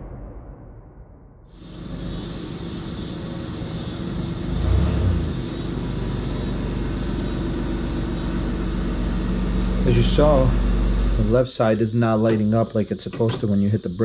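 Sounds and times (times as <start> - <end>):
engine idling: 1.6 - 13.9.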